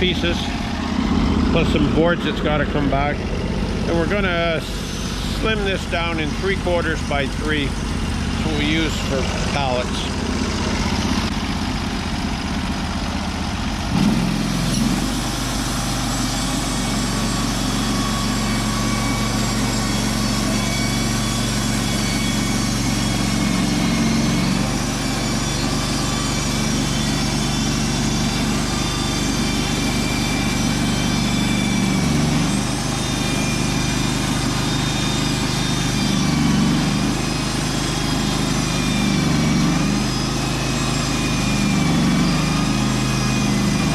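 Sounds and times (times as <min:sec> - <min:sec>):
band saw cutting wood: 0:00.0 - 0:43.9
sawmill engine running: 0:00.0 - 0:43.9.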